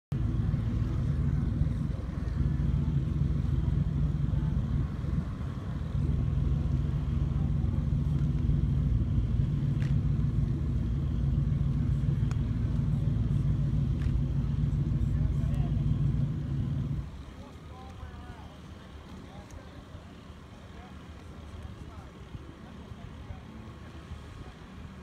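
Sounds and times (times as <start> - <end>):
diesel crane engine rumbling: 0.1 - 25.0.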